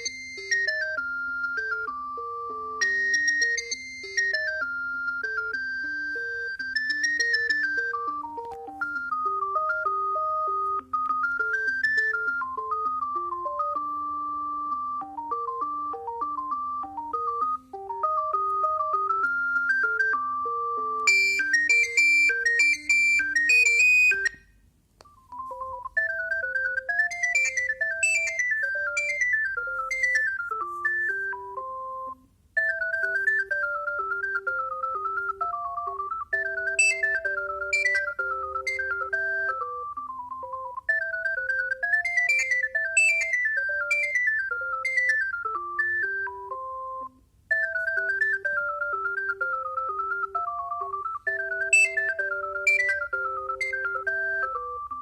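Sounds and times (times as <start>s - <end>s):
high-pitched phone tone: 0.0s - 24.4s, 25.1s - 55.0s
phone ringtone melody: 0.0s - 55.0s.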